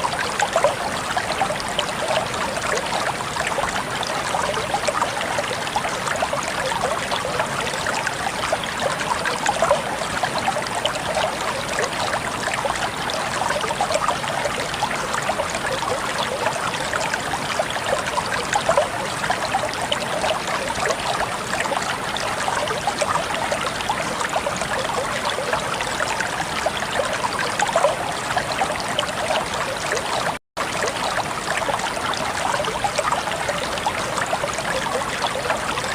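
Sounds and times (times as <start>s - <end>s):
running water stream: 0.0s - 35.9s.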